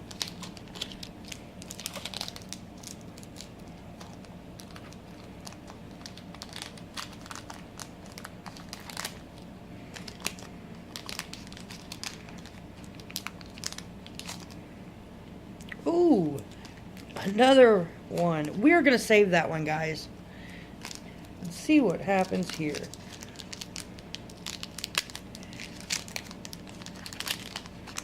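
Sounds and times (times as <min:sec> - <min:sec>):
foil wrapper crinkling: 0:00.0 - 0:14.6, 0:16.4 - 0:19.1, 0:20.4 - 0:28.0
faint steady hum: 0:00.0 - 0:28.0.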